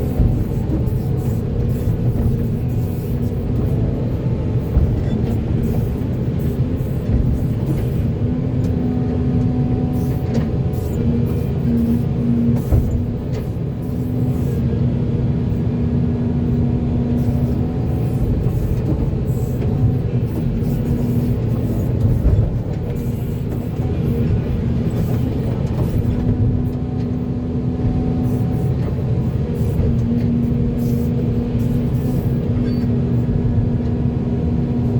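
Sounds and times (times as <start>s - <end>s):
excavator diesel drone: 0.0s - 34.9s.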